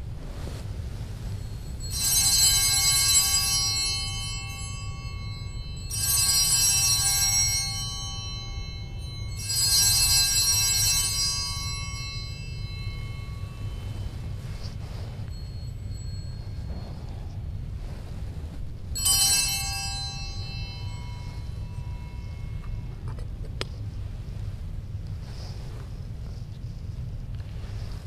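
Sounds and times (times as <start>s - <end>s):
altar bells jingling: 1.0s - 24.4s.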